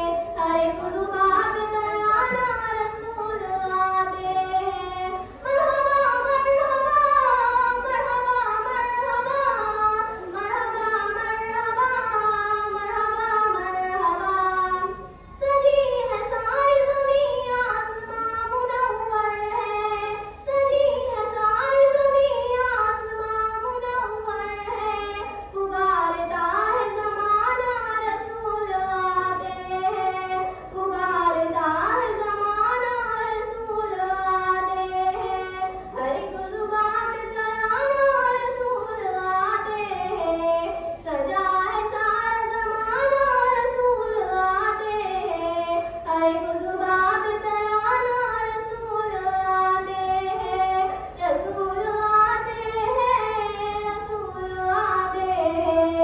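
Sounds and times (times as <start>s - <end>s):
girl singing unaccompanied: 0.0s - 56.0s.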